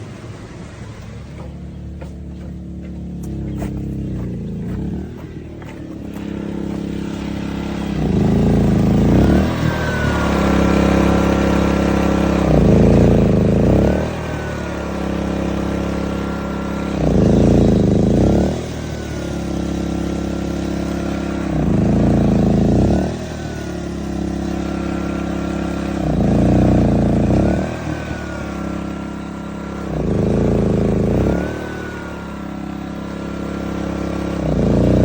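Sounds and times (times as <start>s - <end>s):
portable generator surging: 0.0s - 35.0s.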